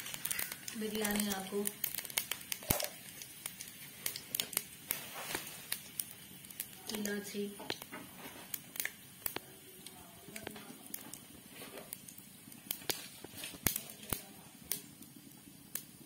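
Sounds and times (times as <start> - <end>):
oil popping and crackling: 0.0 - 16.0
spices sizzling in hot oil: 0.0 - 16.0.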